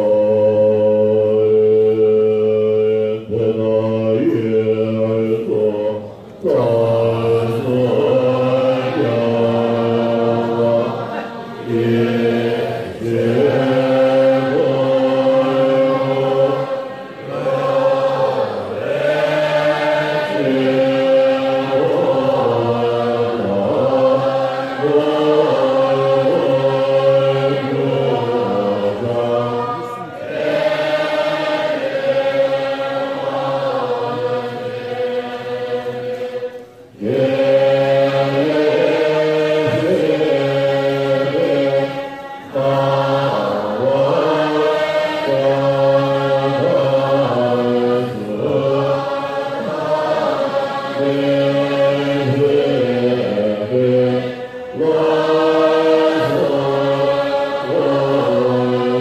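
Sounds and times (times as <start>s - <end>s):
group chanting prayers in unison: 0.0s - 59.0s.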